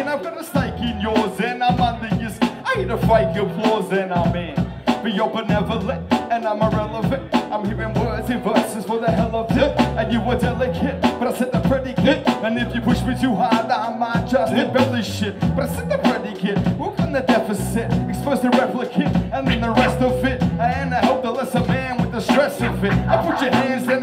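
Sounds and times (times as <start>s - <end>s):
heavy bass line: 0.0s - 24.0s
pitched melody line: 0.0s - 24.0s
steady drum beat: 0.0s - 24.0s.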